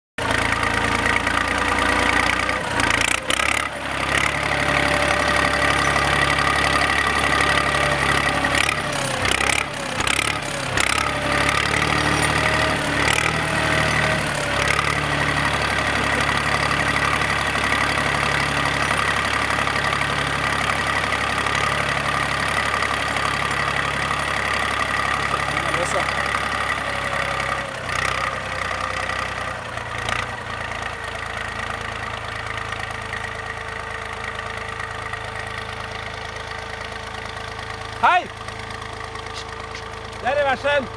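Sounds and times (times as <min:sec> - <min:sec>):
tractor engine idling: 0:00.2 - 0:40.9.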